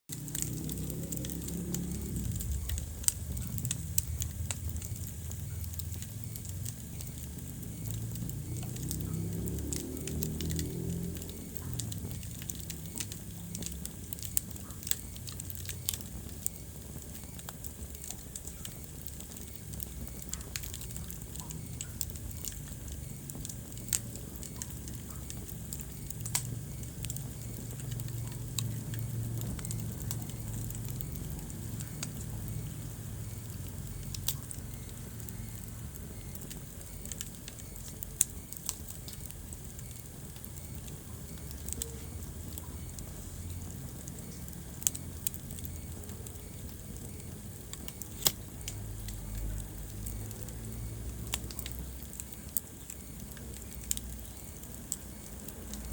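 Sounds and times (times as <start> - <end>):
low rumble of flames: 0.1 - 55.9
wood fire popping and snapping: 0.1 - 55.9.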